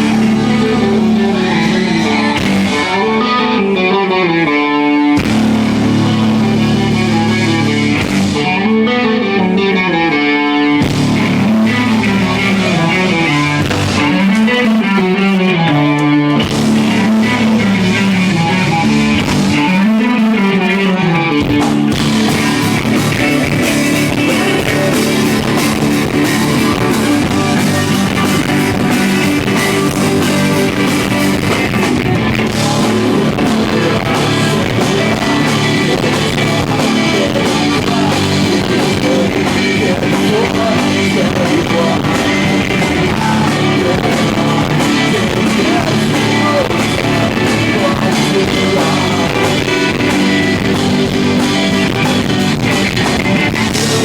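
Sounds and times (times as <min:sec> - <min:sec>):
bass guitar: 0:00.0 - 0:54.0
drums: 0:00.0 - 0:54.0
electric guitar melody: 0:00.0 - 0:54.0
rock band playing: 0:00.0 - 0:54.0.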